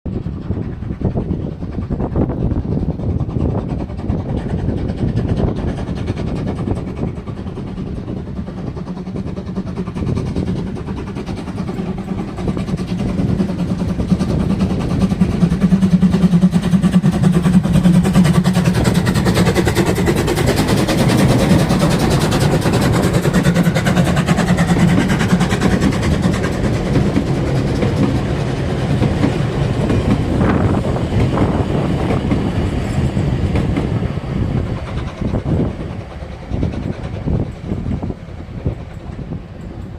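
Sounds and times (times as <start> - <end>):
steam train rumbling: 0.1 - 39.9.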